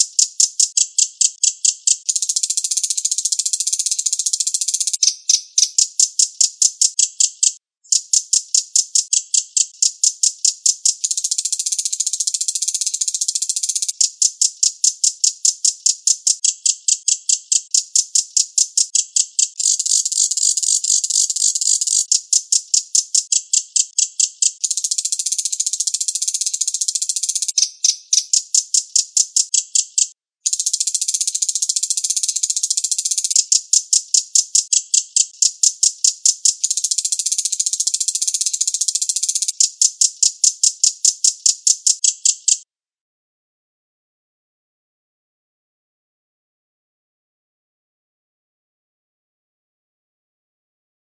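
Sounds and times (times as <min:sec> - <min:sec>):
bird chattering and rattling trills: 0:00.0 - 0:42.6.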